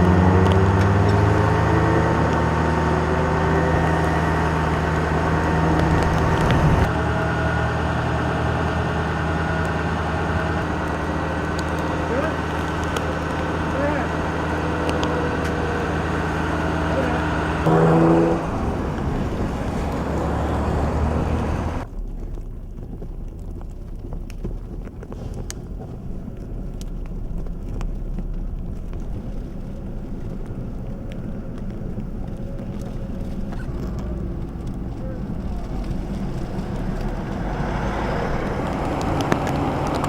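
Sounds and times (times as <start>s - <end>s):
low rumble of traffic: 0.0s - 40.0s
vehicle engine running: 0.0s - 40.0s
wind: 0.0s - 40.0s.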